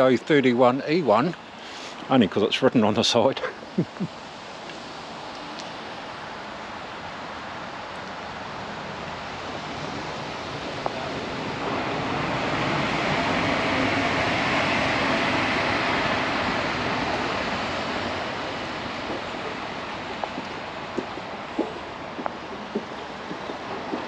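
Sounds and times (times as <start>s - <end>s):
vehicle tyres hissing on wet road: 0.0s - 24.0s.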